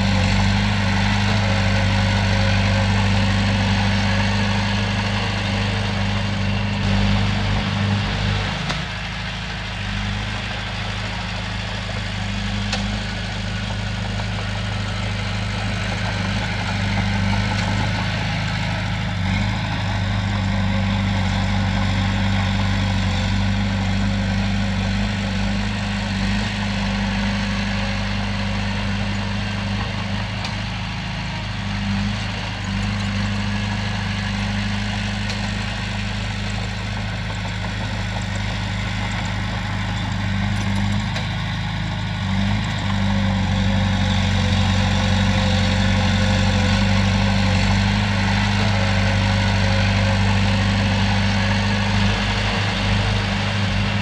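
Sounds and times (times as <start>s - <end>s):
bulldozer diesel engine drone: 0.0s - 54.0s.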